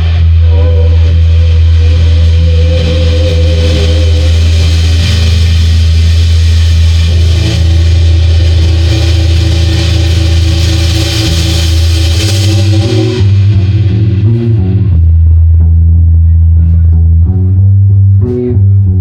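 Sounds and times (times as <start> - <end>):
live rock band: 0.0 - 15.6
distorted guitar and bass drone: 0.0 - 19.0.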